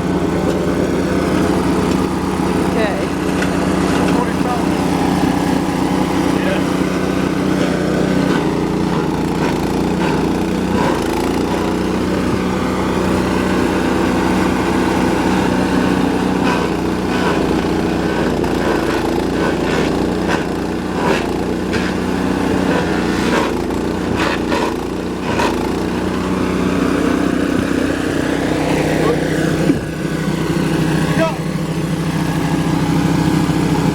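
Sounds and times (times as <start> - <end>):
garden shredder running: 0.0 - 33.9.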